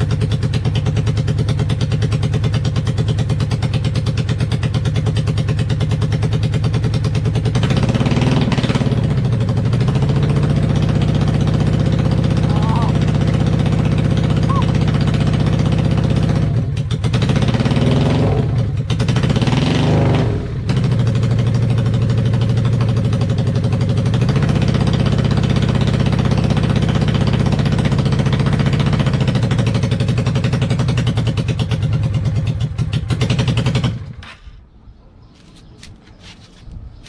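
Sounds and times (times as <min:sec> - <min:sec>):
motorcycle engine revving and running: 0:00.0 - 0:34.4.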